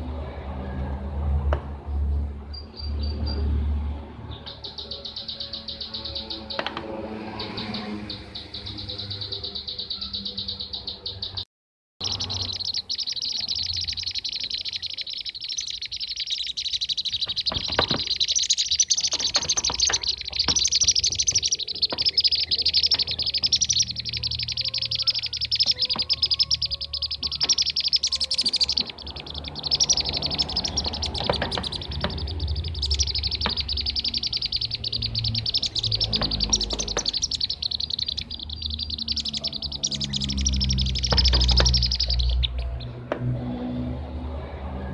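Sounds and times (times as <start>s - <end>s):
rolling bird chirps: 1.9s - 11.4s, 12.0s - 43.6s.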